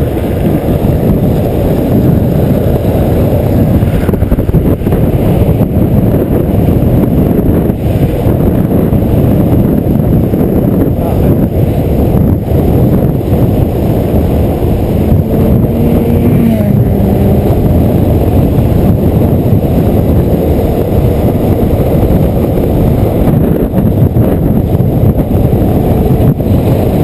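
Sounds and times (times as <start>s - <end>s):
wheels rolling on rough asphalt: 0.0s - 27.0s
wind buffeting microphone: 0.0s - 27.0s.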